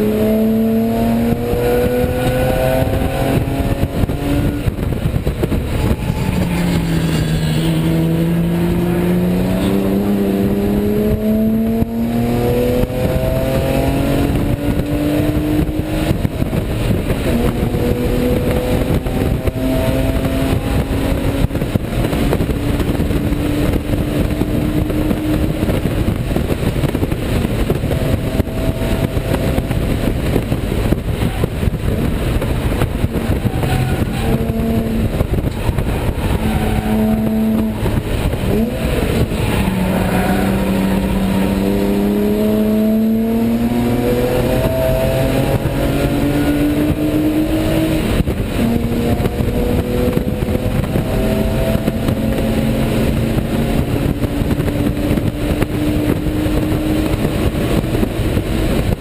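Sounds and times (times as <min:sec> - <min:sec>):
race car engine revving: 0:00.0 - 0:59.0
wind and road noise: 0:00.0 - 0:59.0.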